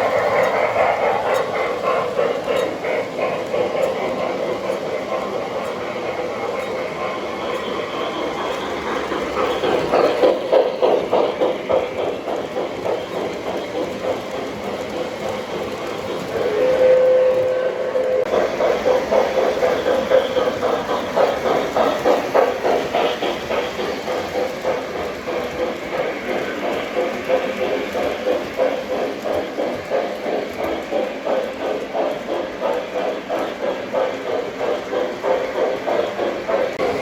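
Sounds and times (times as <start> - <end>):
model train motor humming: 0.0 - 37.0.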